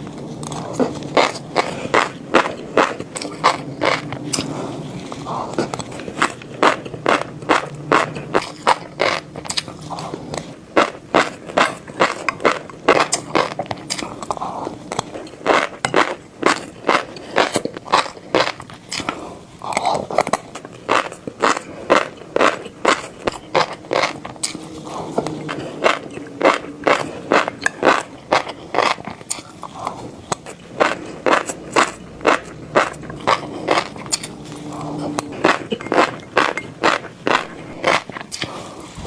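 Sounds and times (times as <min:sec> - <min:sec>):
fish roe crunching and popping: 0:00.0 - 0:39.0.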